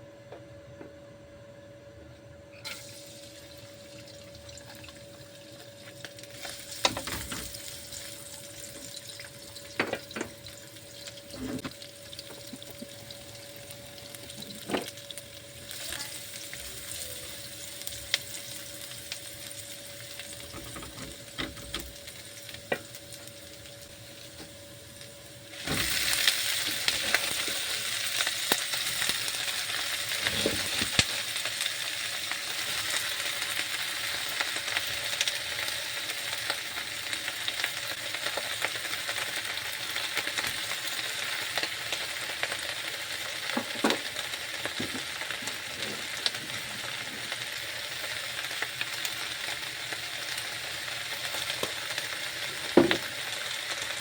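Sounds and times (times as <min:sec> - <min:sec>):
food sizzling in a pan: 0:02.6 - 0:54.0.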